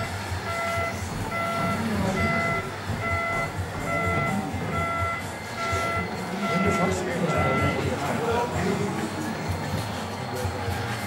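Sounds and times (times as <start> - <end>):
reversing warning beeper: 0.0 - 9.6
low engine rumble: 0.0 - 10.9.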